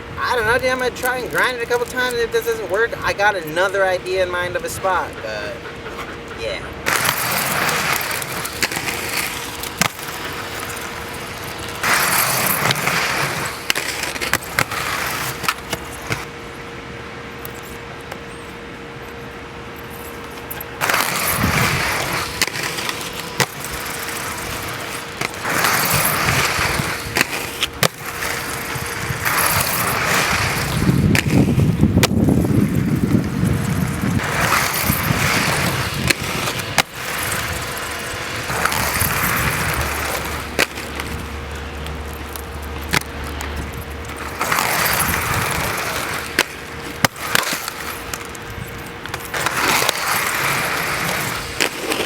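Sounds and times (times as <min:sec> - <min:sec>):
skates clacking and grinding a ledge: 0:00.0 - 0:16.8, 0:19.8 - 0:52.0
inline skates rolling on wet pavement: 0:00.0 - 0:52.0.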